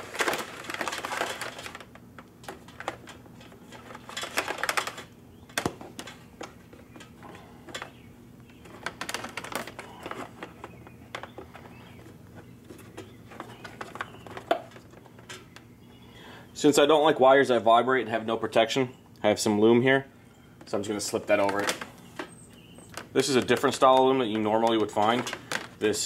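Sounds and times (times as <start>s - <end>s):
wires rustling through plastic trim: 0.0s - 15.7s, 20.6s - 26.0s.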